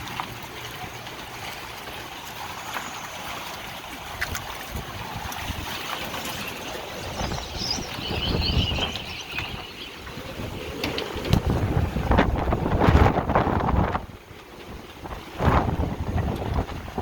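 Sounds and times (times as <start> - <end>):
water sloshing: 0.0 - 17.0
wind buffeting microphone: 3.3 - 17.0.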